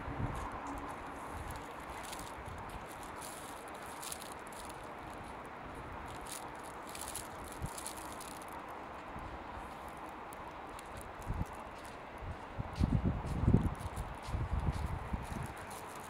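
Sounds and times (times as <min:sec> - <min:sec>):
distant city traffic hum: 0:00.0 - 0:16.0
footsteps crunching on snow: 0:00.3 - 0:08.6, 0:09.6 - 0:16.0.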